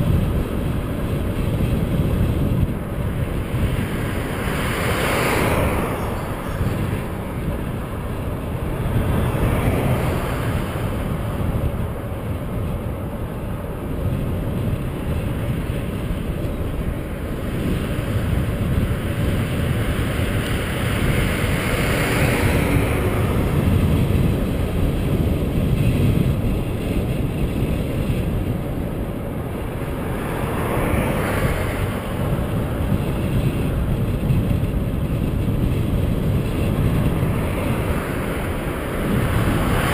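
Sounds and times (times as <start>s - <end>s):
cars passing on highway: 0.0s - 39.9s
wind rumbling on microphone: 0.0s - 39.9s.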